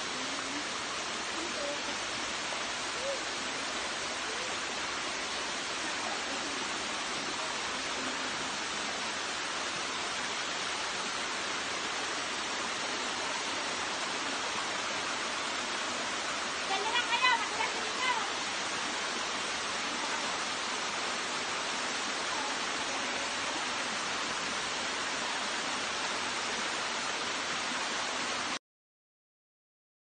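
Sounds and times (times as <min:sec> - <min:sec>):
waterfall rushing over rocks: 0:00.0 - 0:28.6.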